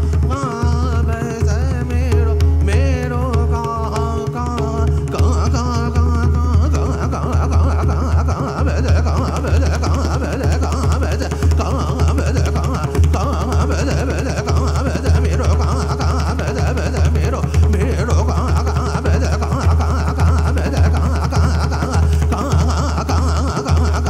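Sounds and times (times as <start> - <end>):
hand drum strokes: 0.0 - 24.0
man singing: 0.0 - 24.0.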